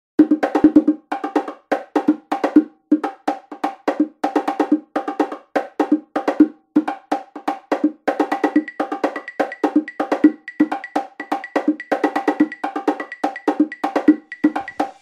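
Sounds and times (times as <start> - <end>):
music with percussive knocks: 0.2 - 15.0.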